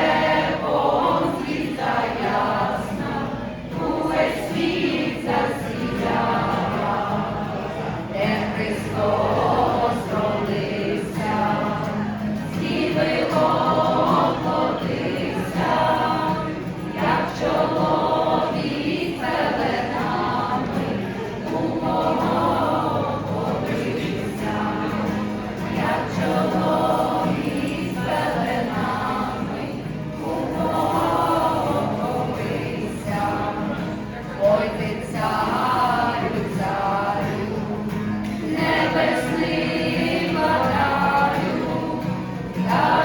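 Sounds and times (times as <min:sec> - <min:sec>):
choir singing a slow song: 0:00.0 - 0:43.0.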